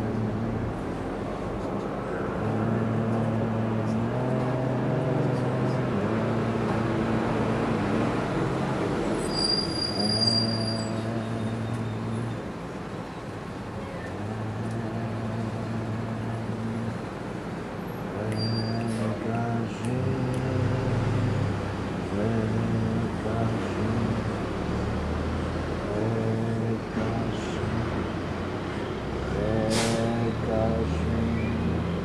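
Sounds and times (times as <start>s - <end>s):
low droning chant: 0.0s - 1.3s, 2.0s - 9.2s, 9.8s - 12.6s, 14.1s - 17.2s, 18.1s - 32.0s.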